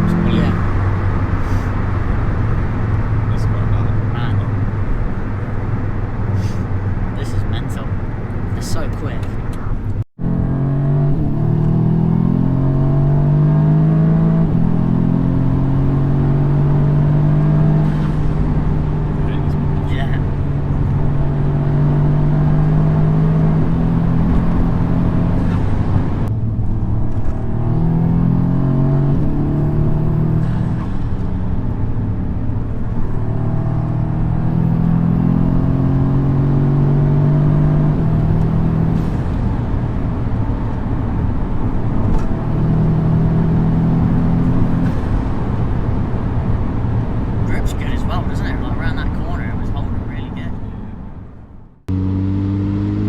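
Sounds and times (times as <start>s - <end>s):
car engine under way: 0.0s - 53.0s.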